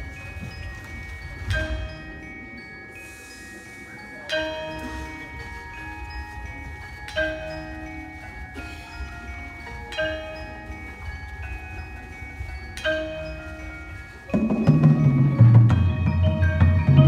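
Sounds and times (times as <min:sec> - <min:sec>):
mallet percussion playing chords: 0:00.0 - 0:17.0.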